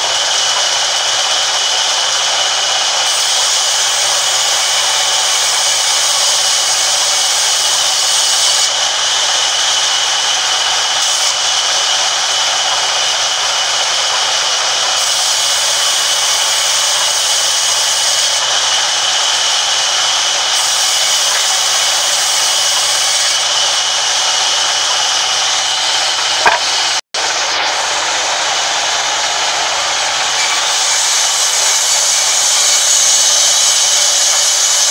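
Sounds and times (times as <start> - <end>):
band saw cutting timber: 0.0 - 34.9.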